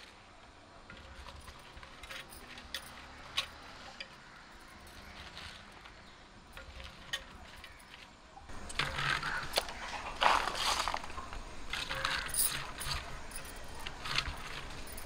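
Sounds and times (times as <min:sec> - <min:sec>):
bean pods rustling: 0:00.0 - 0:15.0.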